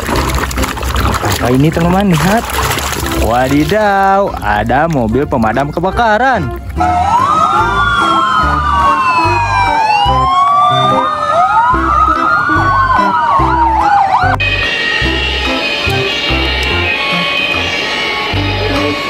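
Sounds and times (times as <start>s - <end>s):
fire engine sirens wailing: 3.1s - 19.0s.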